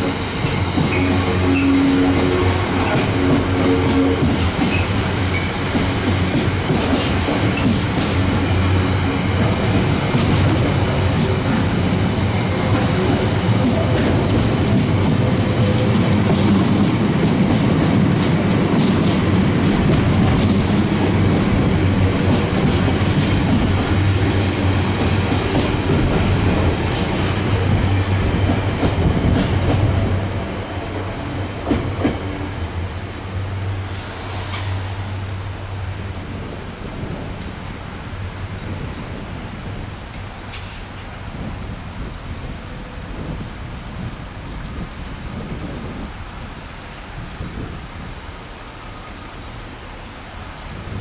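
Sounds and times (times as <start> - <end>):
diesel train passing: 0.0 - 51.0.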